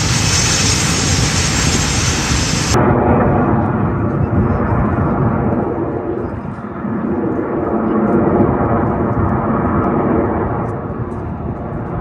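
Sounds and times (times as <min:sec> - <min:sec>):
jet engines rumbling overhead: 0:00.0 - 0:12.0.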